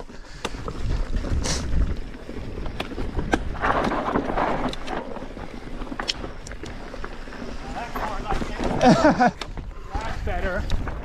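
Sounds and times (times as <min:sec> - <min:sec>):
wind rumble on microphone: 0:00.0 - 0:06.9, 0:07.5 - 0:11.0
bike clicks and knocks: 0:00.0 - 0:11.0
tyres rolling over loose stones: 0:00.0 - 0:11.0.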